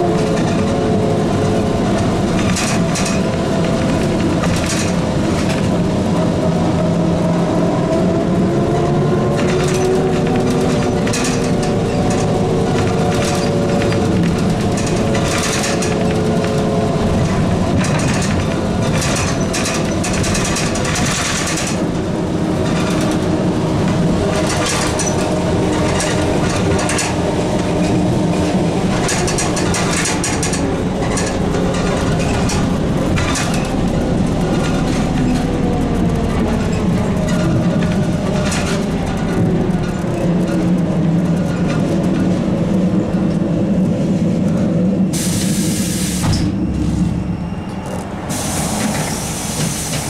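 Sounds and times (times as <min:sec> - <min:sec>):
bus rumble with rattles: 0:00.0 - 0:50.0.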